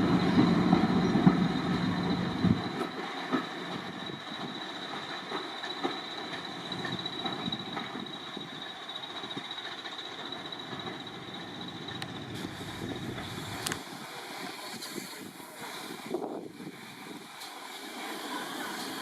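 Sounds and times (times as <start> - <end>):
train wheels rolling on rail: 0.0 - 19.0.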